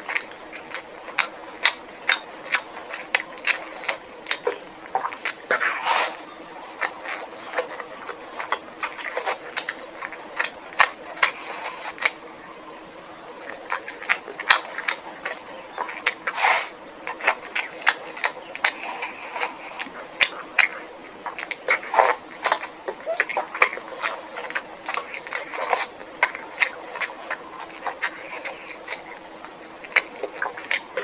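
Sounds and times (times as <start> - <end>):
person chewing: 0.0 - 31.0.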